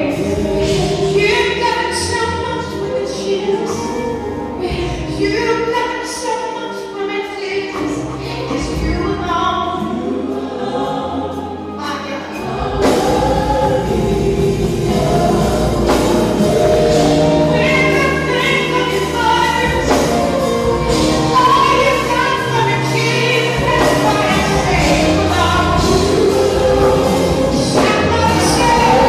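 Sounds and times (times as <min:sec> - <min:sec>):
gospel choir singing: 0:00.0 - 0:29.0
instrumental accompaniment: 0:00.0 - 0:29.0.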